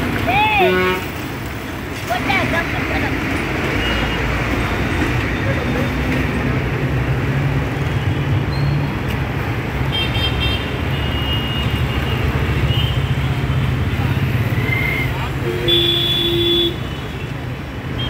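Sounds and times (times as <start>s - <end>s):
urban traffic rumble: 0.0s - 18.0s.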